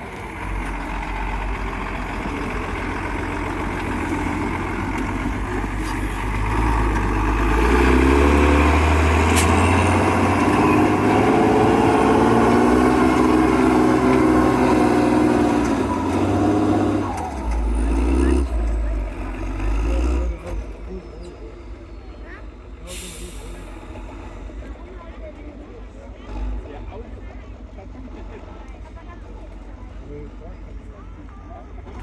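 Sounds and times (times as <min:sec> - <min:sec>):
truck engine running under load: 0:00.0 - 0:32.0.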